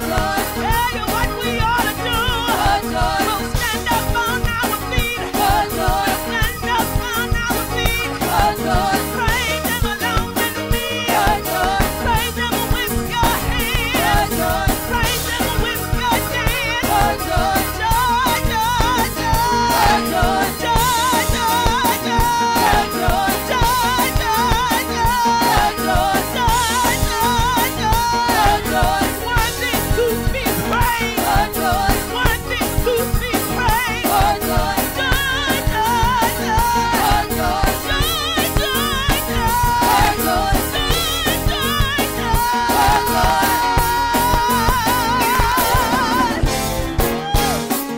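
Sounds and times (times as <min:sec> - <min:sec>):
choir singing: 0:00.0 - 0:03.6, 0:05.1 - 0:06.8, 0:07.8 - 0:15.2, 0:16.6 - 0:30.0, 0:30.6 - 0:32.2, 0:33.7 - 0:46.7
woman singing: 0:00.0 - 0:47.6
steady beat: 0:00.0 - 0:47.9.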